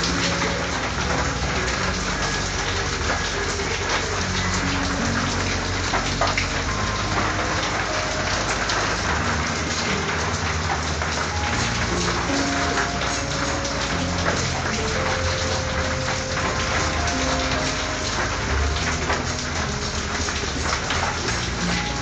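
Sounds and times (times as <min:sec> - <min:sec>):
rain on a tin roof: 0:00.0 - 0:22.0.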